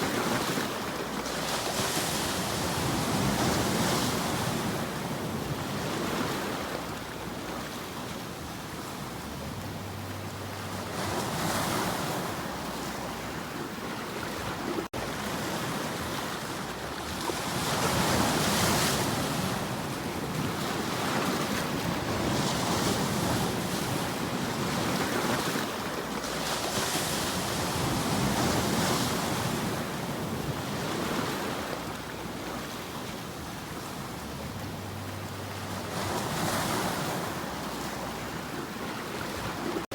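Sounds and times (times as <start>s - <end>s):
ocean waves washing ashore: 0.0s - 39.9s
wind: 0.0s - 39.9s.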